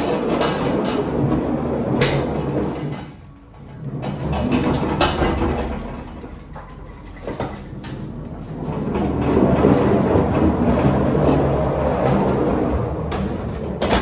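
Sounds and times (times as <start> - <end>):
pallet jack wheels rattling: 0.0 - 14.0.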